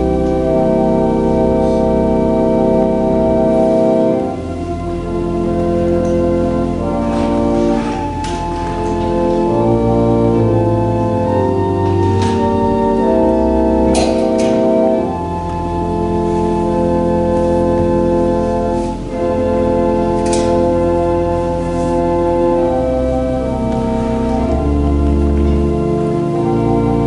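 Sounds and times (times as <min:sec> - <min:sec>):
organ playing held chords: 0:00.0 - 0:27.0.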